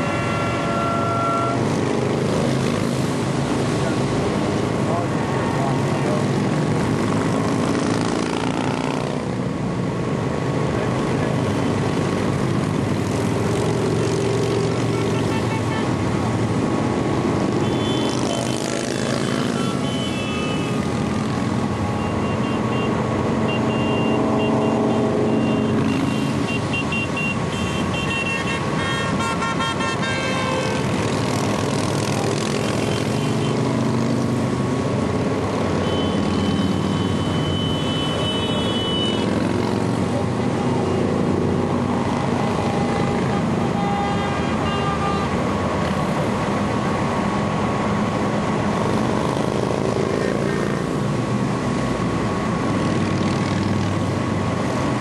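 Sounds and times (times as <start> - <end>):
motorcycle engines passing: 0.0 - 55.0.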